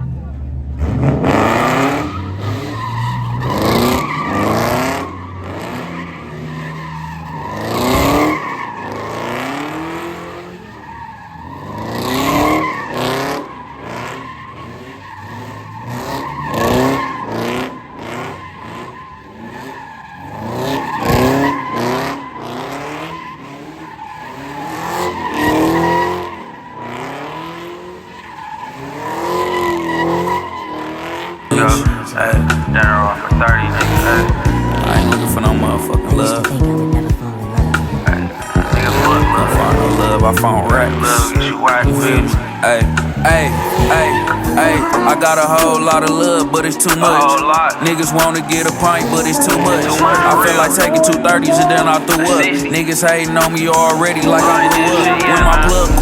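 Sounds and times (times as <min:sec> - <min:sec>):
car engines revving: 0:00.0 - 0:56.0
tires squealing: 0:00.0 - 0:56.0.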